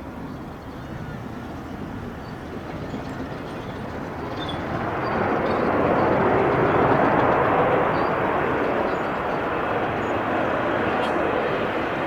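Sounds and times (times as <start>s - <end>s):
jet airliner engine: 0.0s - 12.0s.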